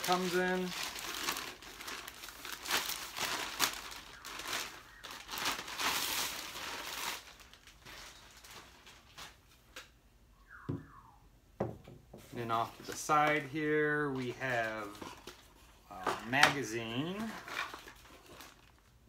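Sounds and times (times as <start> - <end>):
plastic sleeve crinkling: 0.0 - 9.8, 12.3 - 19.0.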